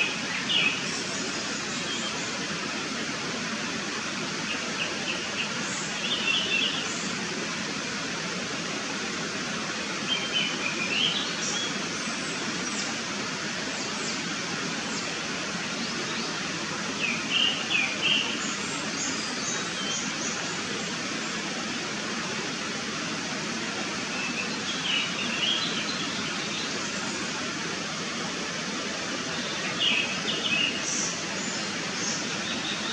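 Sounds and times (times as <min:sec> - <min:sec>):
background hiss: 0:00.0 - 0:32.9.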